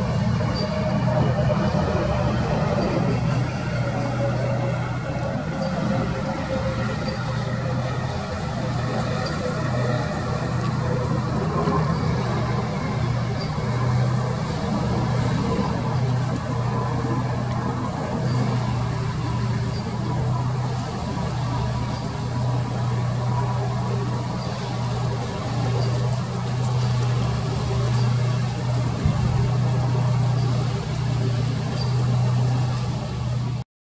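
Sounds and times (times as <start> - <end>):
low engine rumble: 0.0 - 33.6.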